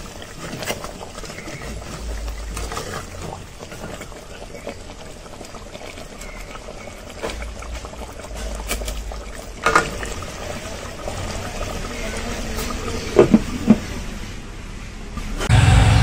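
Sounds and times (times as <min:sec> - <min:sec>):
ladle stirring curry: 0:00.0 - 0:14.0
gravy sloshing: 0:00.0 - 0:14.4.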